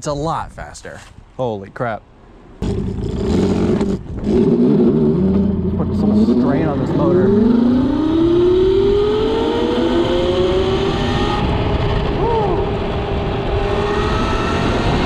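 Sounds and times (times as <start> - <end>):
wind on microphone: 2.6 - 15.0.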